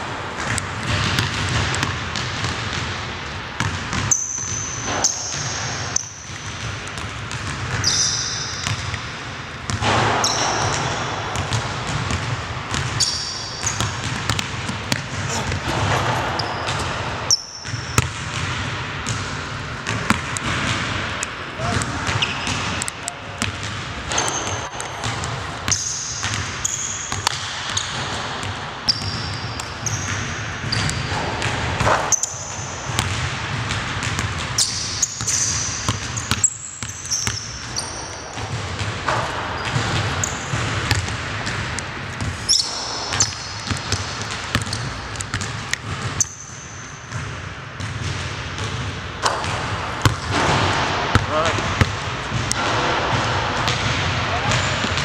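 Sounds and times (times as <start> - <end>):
basketball bouncing on hardwood: 0.4 - 2.9, 9.7 - 17.0, 17.6 - 26.5, 27.1 - 46.3, 47.1 - 55.0
sneakers squeaking: 0.4 - 55.0.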